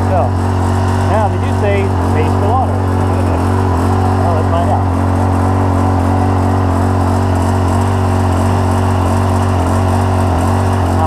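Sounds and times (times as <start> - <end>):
motor and pump droning: 0.0 - 11.0.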